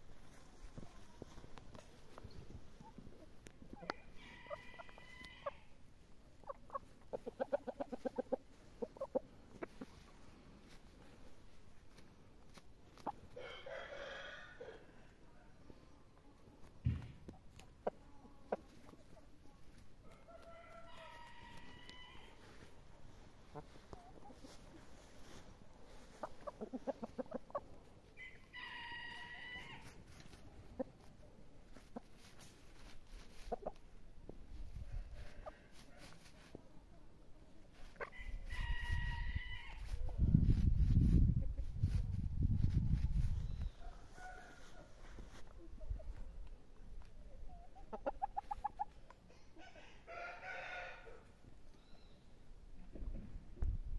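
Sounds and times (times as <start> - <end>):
chickens clucking: 0.2 - 14.2, 15.6 - 51.8.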